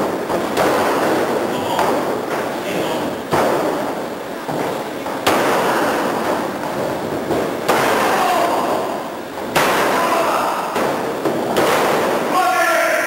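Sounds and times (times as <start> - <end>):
bodies slamming on ring mat: 0.0 - 12.4.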